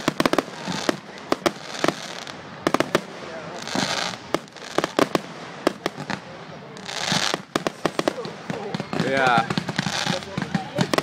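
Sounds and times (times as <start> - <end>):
fireworks cracking and banging: 0.0 - 11.0
fireworks crackling hiss: 0.0 - 11.0.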